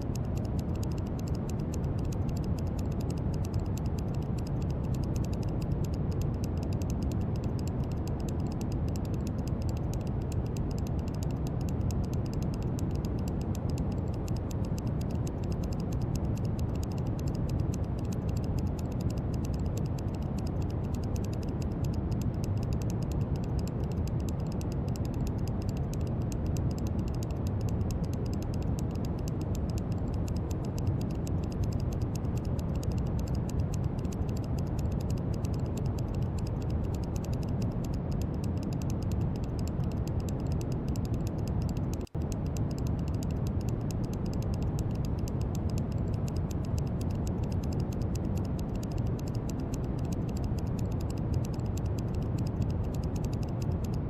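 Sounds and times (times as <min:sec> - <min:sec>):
faint fast crackle: 0:00.0 - 0:54.0.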